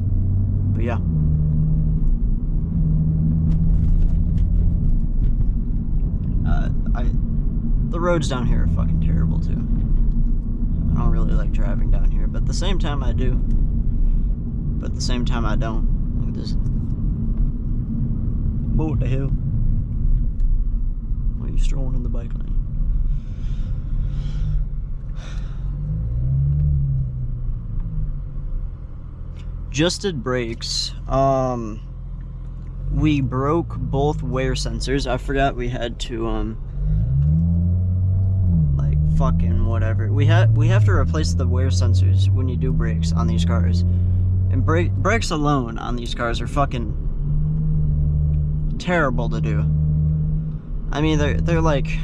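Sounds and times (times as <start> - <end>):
car engine rumble inside cabin: 0.0 - 52.0.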